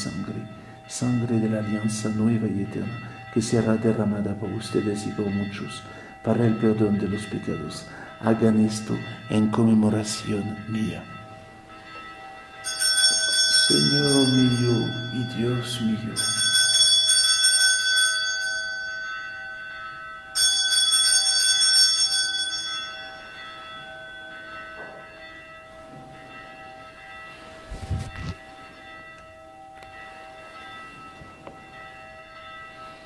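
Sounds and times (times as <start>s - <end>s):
small bells ringing: 0.0s - 33.0s.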